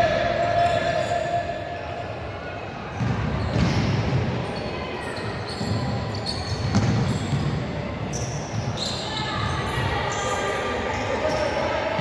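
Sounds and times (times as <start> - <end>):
footfalls echoing in a hall: 0.0 - 12.0.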